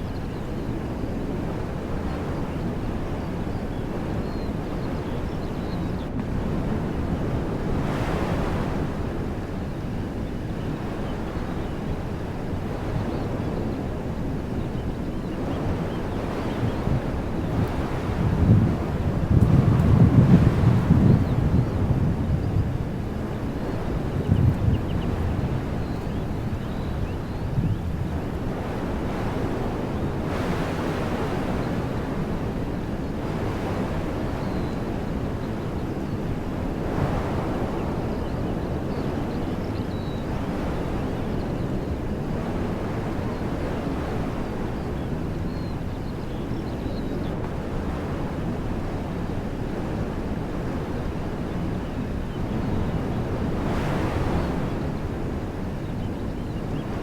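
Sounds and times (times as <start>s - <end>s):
wind rumble on microphone: 0.0s - 57.0s
wind rushing through trees: 0.0s - 57.0s.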